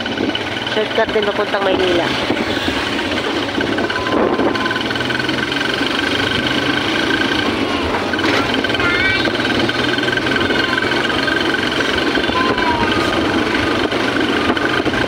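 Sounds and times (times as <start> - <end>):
road and tyre noise: 0.0 - 15.0
vehicle engine running: 0.0 - 15.0.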